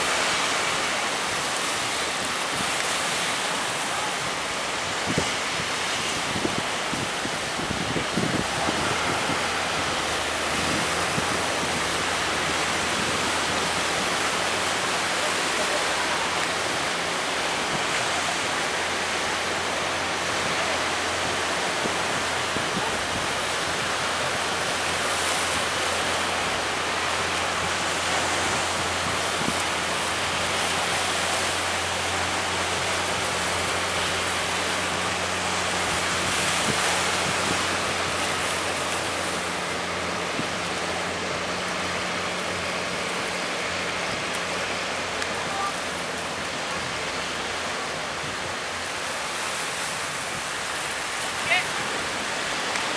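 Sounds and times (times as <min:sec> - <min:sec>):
faint low boat engine drone: 0:00.0 - 0:52.9
surf breaking: 0:00.0 - 0:52.9.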